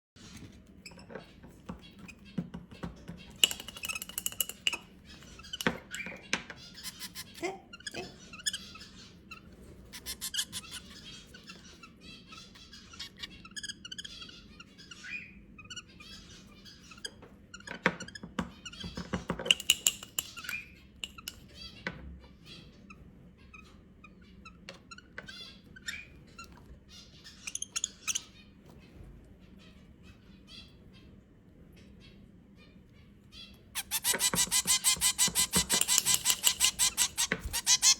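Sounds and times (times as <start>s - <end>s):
bird chicks chirping: 0.2s - 37.9s.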